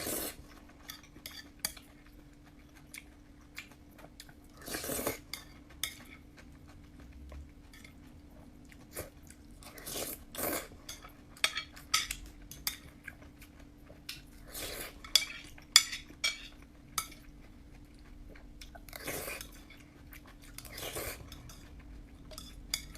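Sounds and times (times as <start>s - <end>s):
chewing noodles: 0.0s - 15.7s, 16.6s - 22.9s.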